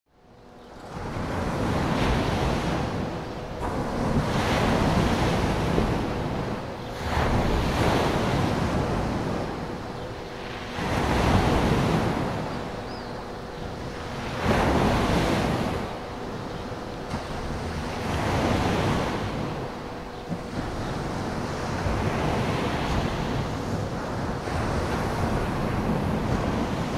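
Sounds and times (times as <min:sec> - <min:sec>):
waves washing in and out: 0:00.2 - 0:26.9.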